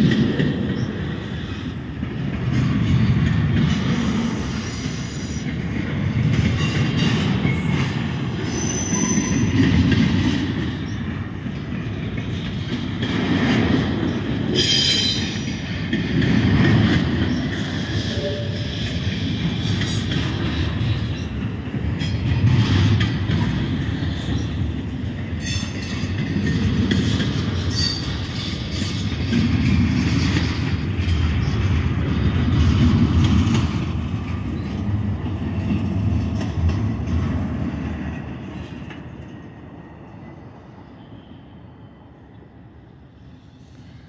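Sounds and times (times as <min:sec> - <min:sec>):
freight train wheels clattering: 0:00.0 - 0:40.1.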